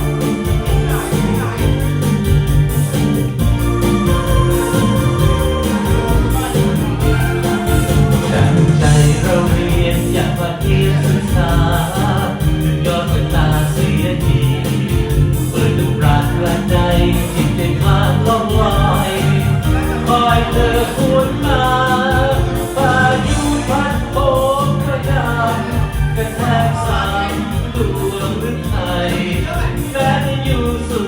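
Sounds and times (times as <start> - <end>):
person singing: 0.0 - 2.8, 3.5 - 31.0
band accompaniment with beat: 0.0 - 31.0.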